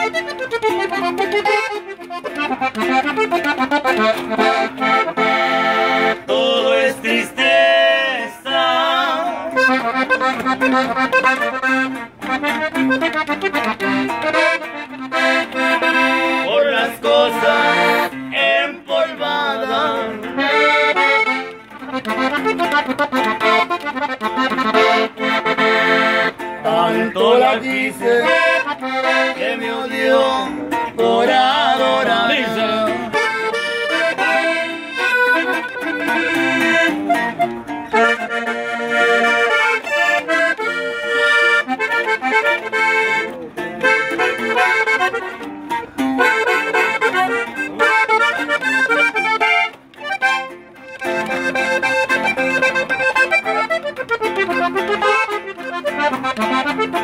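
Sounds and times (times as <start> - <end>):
button accordion melody: 0.0 - 57.0
guitar strumming: 0.0 - 57.0.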